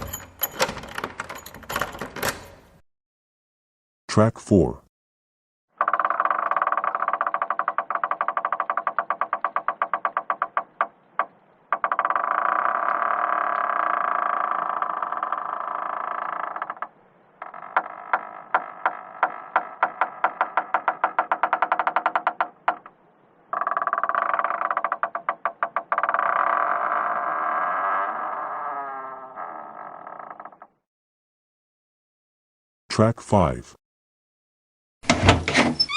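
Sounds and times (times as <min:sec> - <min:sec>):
door hinge creaking: 0:00.0 - 0:02.8, 0:05.8 - 0:30.9, 0:35.1 - 0:35.9.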